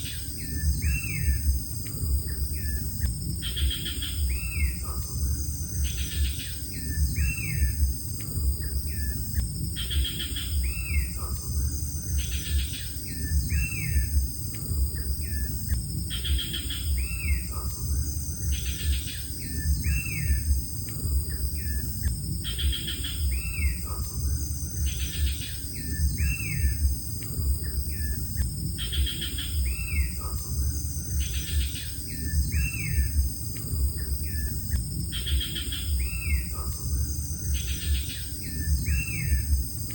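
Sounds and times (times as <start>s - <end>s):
high insect drone: 0.0s - 39.9s
low rumble: 0.4s - 39.9s.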